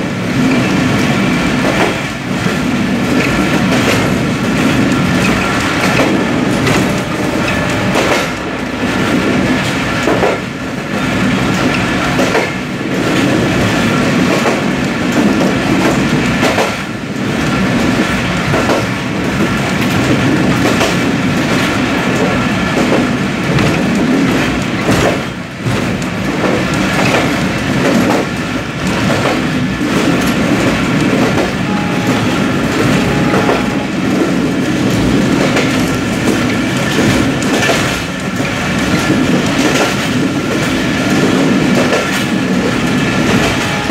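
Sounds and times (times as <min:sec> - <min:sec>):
rail joint clacks: 0:00.0 - 0:43.9
train wheels rumbling on rails: 0:00.0 - 0:43.9.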